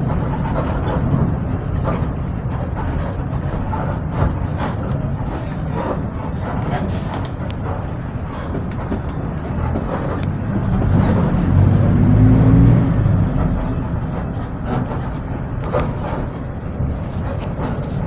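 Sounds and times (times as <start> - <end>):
bus engine running: 0.0 - 18.0.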